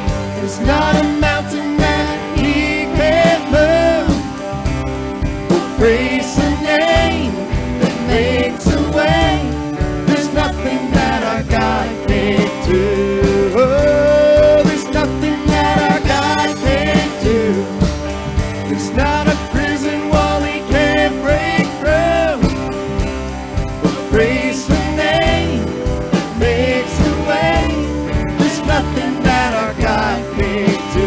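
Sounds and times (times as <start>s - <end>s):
worship band music: 0.0s - 31.0s.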